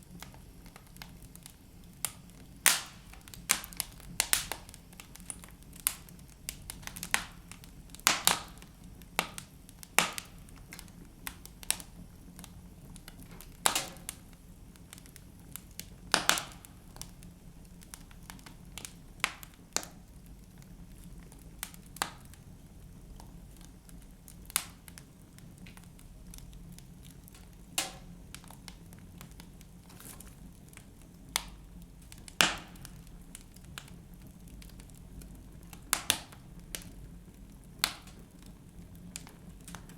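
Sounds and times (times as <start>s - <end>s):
low steady hiss: 0.0s - 39.9s
wood fire crackling and popping: 0.0s - 39.9s.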